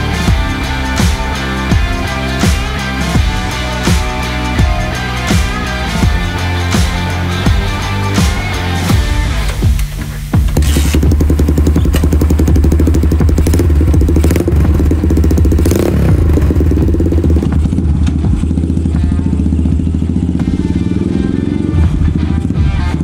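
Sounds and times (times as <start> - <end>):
background music: 0.0 - 23.0
motorcycle engine revving: 0.0 - 23.0.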